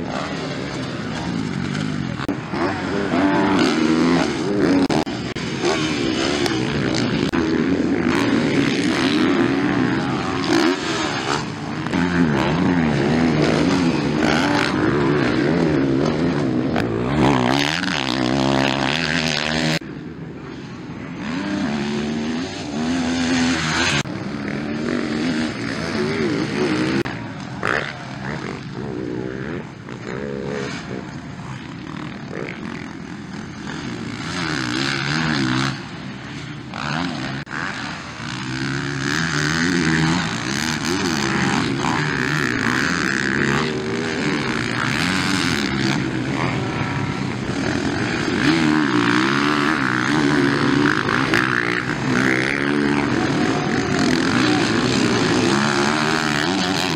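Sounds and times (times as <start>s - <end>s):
motocross bike engines revving: 0.0s - 56.9s.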